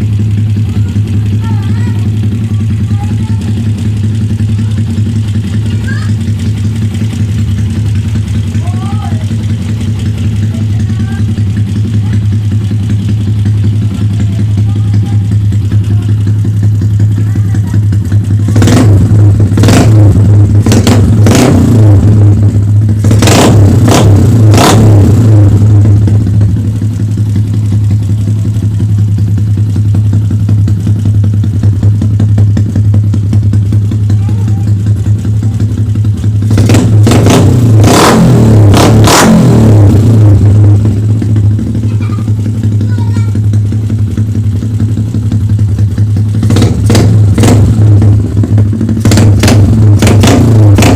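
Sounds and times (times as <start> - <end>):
motorcycle engine idling and revving: 0.0 - 50.9
exhaust cracks: 8.5 - 50.9.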